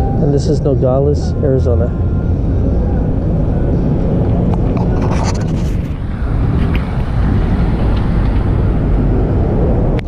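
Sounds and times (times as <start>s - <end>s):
bus driving past: 0.0s - 10.0s
wind buffeting microphone: 0.0s - 10.0s.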